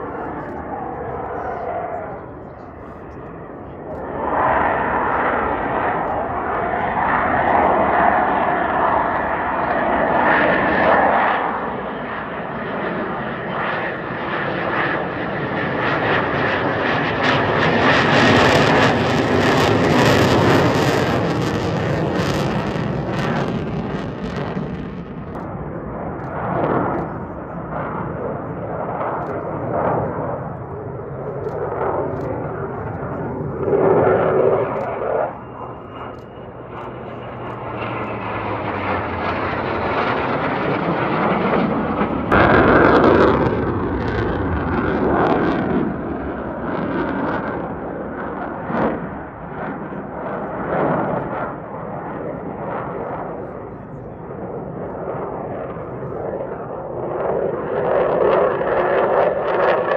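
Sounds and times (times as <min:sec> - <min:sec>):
fighter jet passing: 0:00.0 - 0:59.9.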